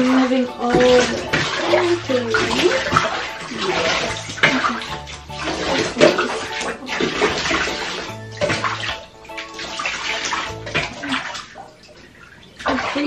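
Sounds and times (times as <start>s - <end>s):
background music of held notes: 0.0s - 12.2s
water splashing in bathtub: 0.0s - 13.0s.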